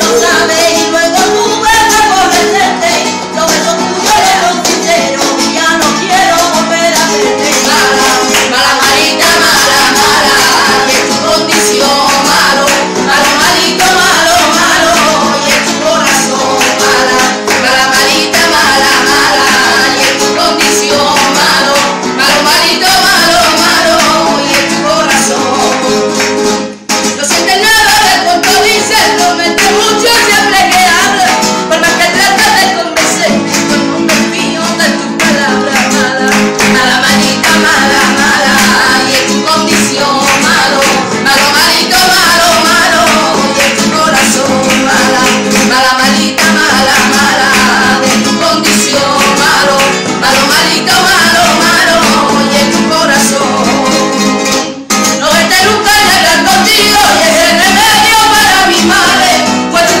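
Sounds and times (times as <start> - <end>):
guitar strumming: 0.0 - 60.0
woman singing flamenco: 0.0 - 60.0.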